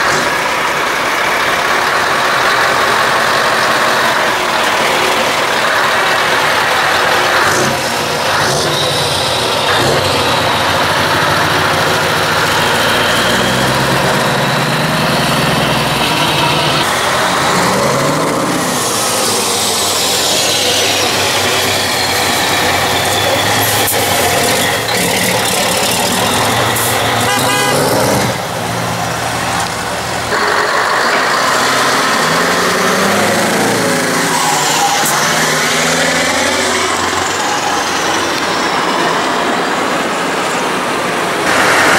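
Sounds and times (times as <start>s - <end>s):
diesel truck engines revving: 0.0s - 41.9s
long falling whine: 2.0s - 41.9s.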